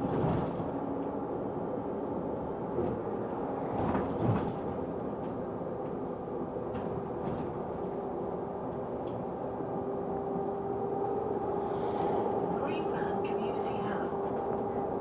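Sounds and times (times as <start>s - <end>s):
bus drivetrain droning: 0.0s - 15.0s.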